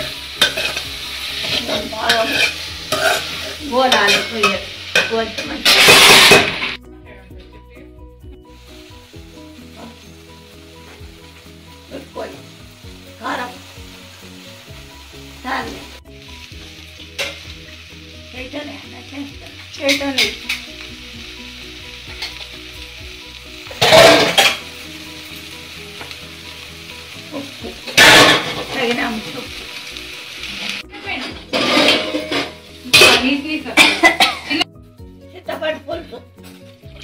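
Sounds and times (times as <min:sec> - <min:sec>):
food sizzling in oil: 0:00.0 - 0:06.8, 0:08.2 - 0:37.0.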